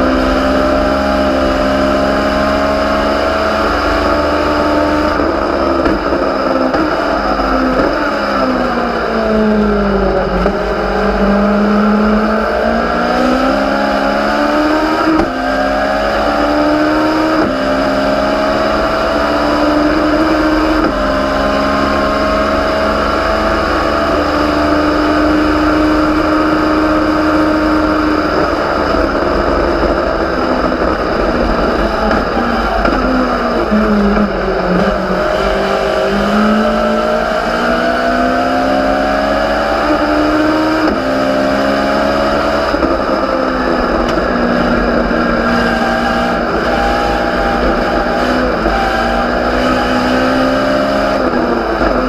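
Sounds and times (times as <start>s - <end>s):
motorcycle engine revving with upshifts: 0.0s - 52.0s
wind and road noise: 0.0s - 52.0s.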